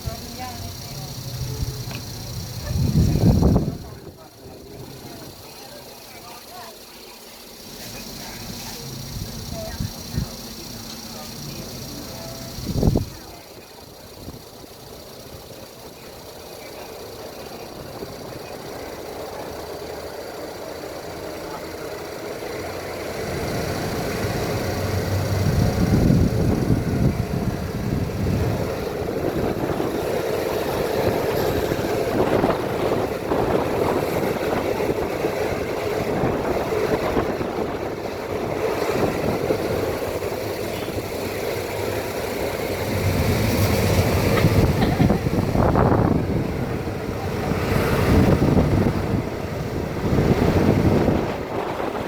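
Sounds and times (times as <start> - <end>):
diesel train approaching: 0.0 - 52.0.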